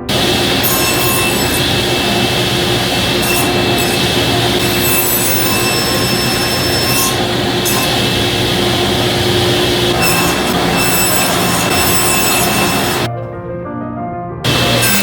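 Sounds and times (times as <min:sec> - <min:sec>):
power tool cutting wood: 0:00.0 - 0:13.1, 0:14.5 - 0:15.0.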